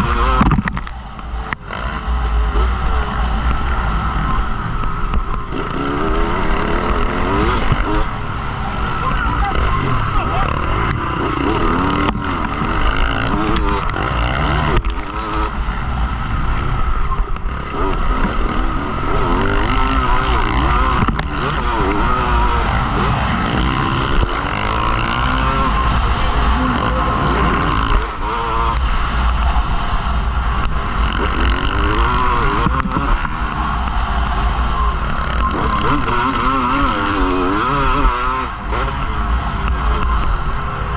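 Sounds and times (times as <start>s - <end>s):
motocross bike engines revving: 0.0s - 40.9s.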